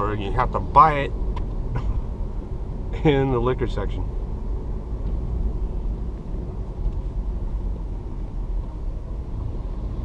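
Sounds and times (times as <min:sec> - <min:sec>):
car road rumble: 0:00.0 - 0:10.0.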